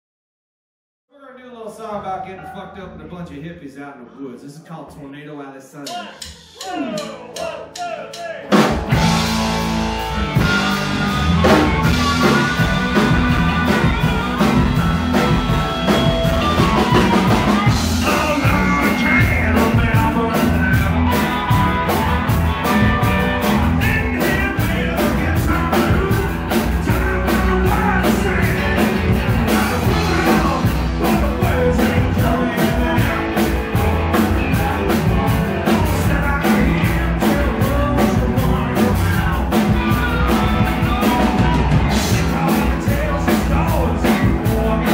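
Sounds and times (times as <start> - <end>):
drum kit beat: 5.8 - 44.9
electric bass: 8.4 - 44.9
electric guitars: 8.4 - 44.9.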